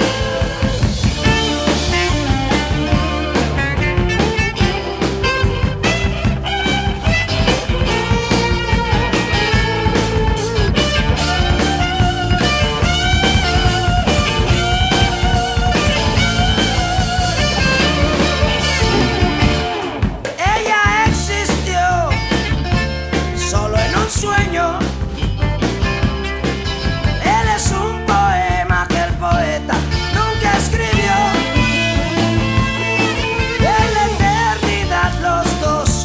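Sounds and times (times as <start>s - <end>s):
rock music with electric guitar: 0.0s - 36.0s.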